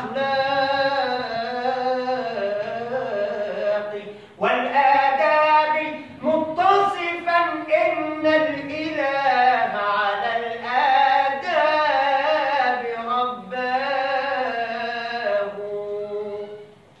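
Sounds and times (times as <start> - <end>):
man singing unaccompanied: 0.0 - 16.8.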